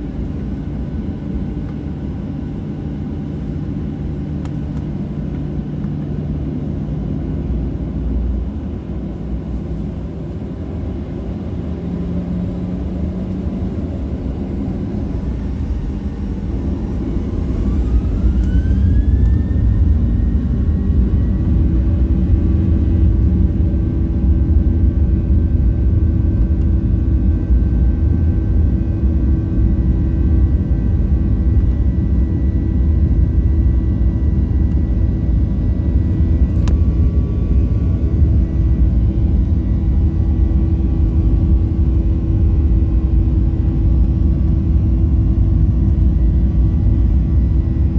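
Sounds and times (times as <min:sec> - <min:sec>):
jet engine low rumble: 0:00.0 - 0:47.9
jet engine rising whine: 0:00.0 - 0:47.9.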